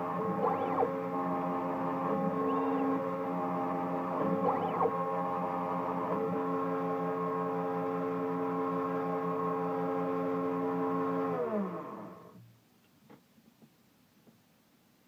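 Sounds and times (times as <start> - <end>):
milling machine spindle whine: 0.0 - 12.3.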